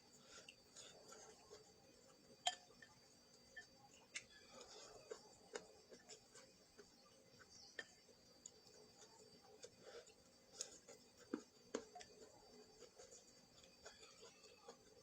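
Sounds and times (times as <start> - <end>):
clicks and taps of eating: 0.4 - 15.0.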